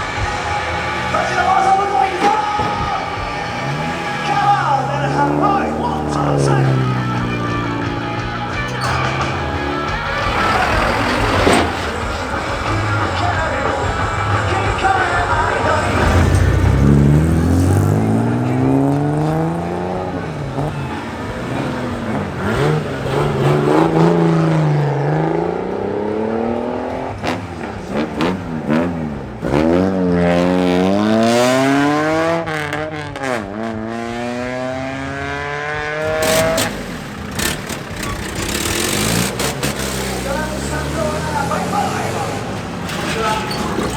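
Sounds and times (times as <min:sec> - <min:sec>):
car engine revving: 0:00.0 - 0:43.9
exhaust cracks: 0:00.0 - 0:43.9.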